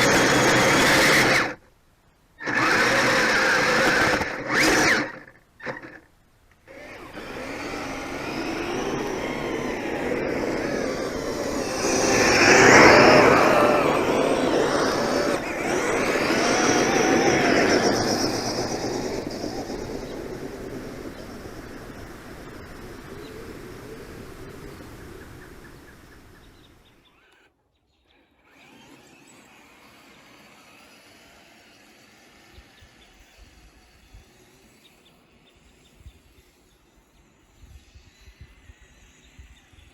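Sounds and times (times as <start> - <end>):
toy motor whining: 0.0 - 1.6, 2.4 - 6.1, 6.7 - 25.2, 26.5 - 27.5, 28.2 - 39.8
faint outdoor background: 0.0 - 39.9.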